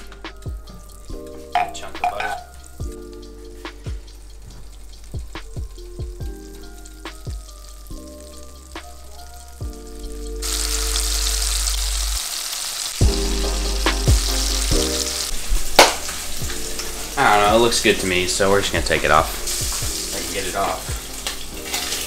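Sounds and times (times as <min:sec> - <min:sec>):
fish frying in butter: 0:00.0 - 0:22.0.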